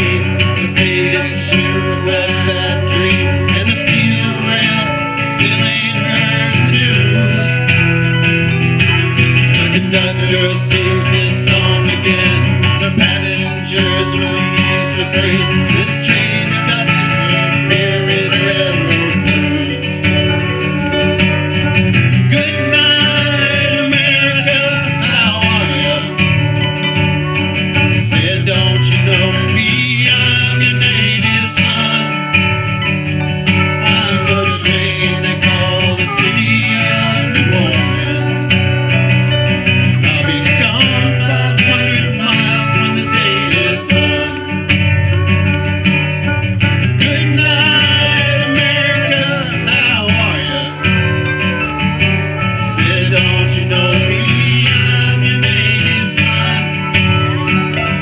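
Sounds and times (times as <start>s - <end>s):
man singing: 0.0s - 45.8s, 46.6s - 58.0s
acoustic bass guitar: 0.0s - 58.0s
strummed acoustic guitar: 0.0s - 58.0s.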